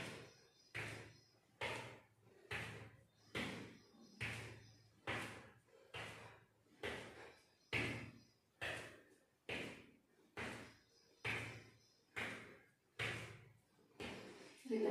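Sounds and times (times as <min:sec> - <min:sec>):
bare feet stamping on hard floor: 0:00.0 - 0:14.4.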